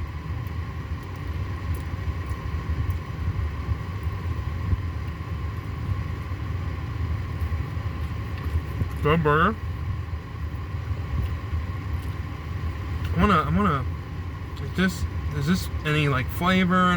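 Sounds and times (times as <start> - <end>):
faint constant hum: 0.0 - 16.9
steady low rumble: 0.0 - 16.9.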